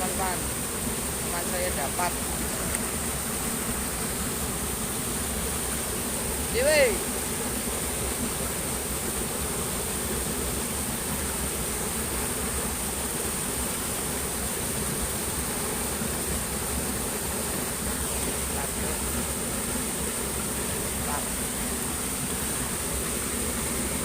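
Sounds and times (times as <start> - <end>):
high-pitched insect drone: 0.0 - 24.0
stream water rushing: 0.0 - 24.0.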